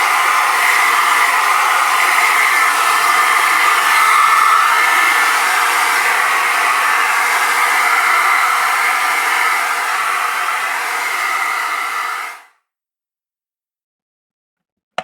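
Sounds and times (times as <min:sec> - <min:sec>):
appliance fan motor whining: 0:00.0 - 0:12.4.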